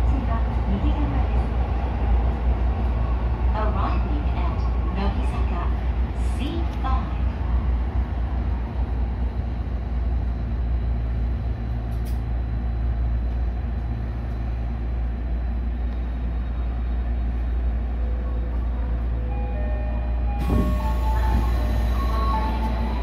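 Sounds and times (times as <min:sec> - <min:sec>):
subway train rumble and hum: 0:00.0 - 0:23.0.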